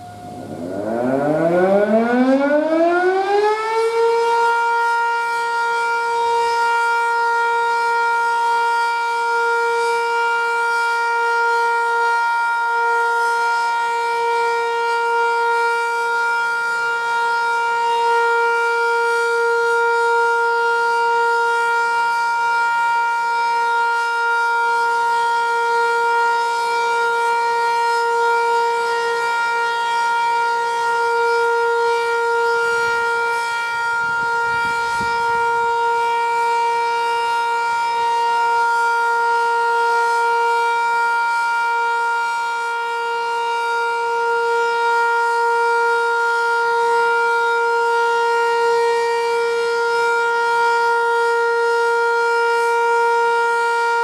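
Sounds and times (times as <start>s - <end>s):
warning siren steady tone: 0.0s - 54.0s.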